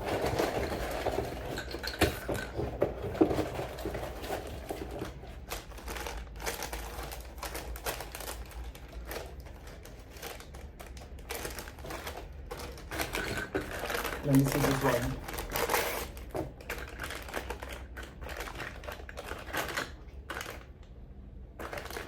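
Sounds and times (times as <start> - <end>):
plastic bag crinkling: 0.0 - 20.9, 21.5 - 22.0.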